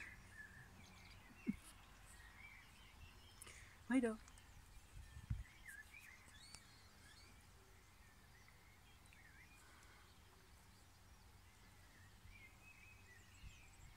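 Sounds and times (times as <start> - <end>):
faint bird chirps: 0.0 - 13.9.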